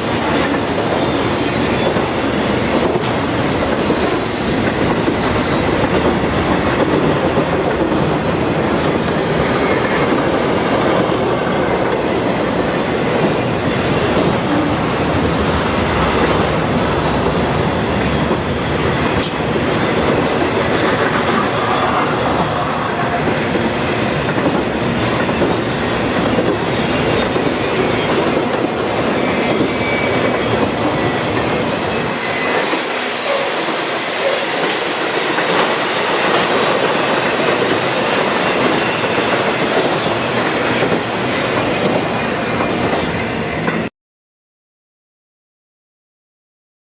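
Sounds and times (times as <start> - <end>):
freight train rumble: 0.0 - 43.9.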